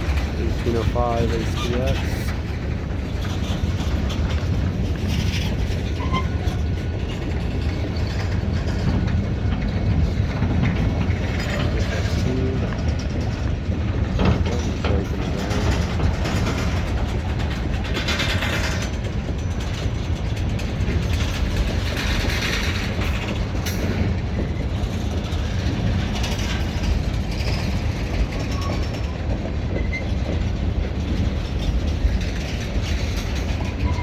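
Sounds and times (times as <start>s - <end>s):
train wheels rumbling and clacking: 0.0s - 34.0s.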